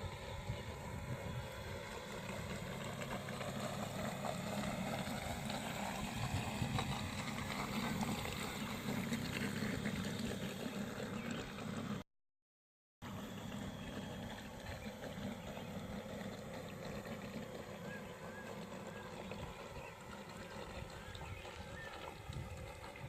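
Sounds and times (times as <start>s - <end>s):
model boat motor humming: 0.0s - 12.0s, 13.0s - 23.0s
water noise: 0.0s - 12.0s, 13.0s - 23.0s.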